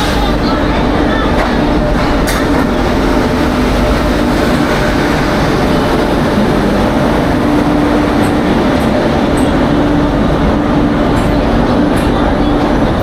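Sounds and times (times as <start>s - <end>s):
train rumble with low hum: 0.0s - 13.0s.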